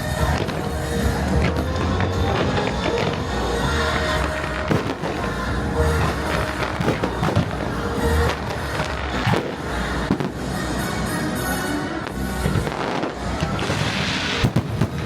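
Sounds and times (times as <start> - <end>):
fireworks bursting and crackling: 0.0 - 15.0
loud show music: 0.0 - 15.0.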